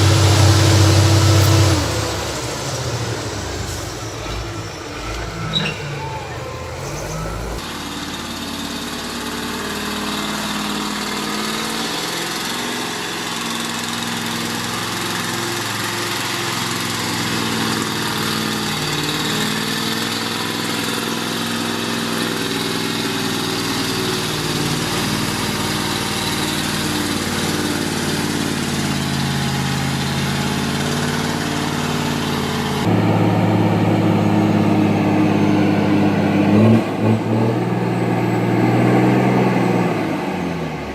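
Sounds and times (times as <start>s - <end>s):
engine running: 0.0s - 40.9s
louder deeper engine: 0.0s - 40.9s.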